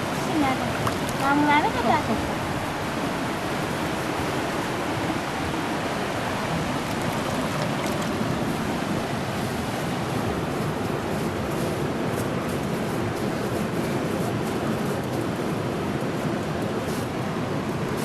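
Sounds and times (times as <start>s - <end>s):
fast-flowing river water: 0.0s - 18.0s.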